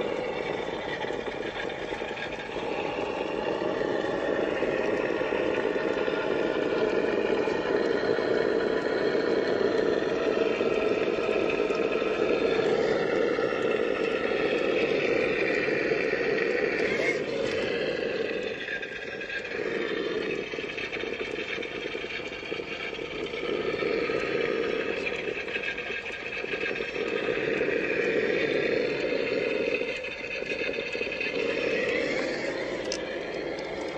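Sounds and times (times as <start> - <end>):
toy car motor hum: 0.0 - 33.9.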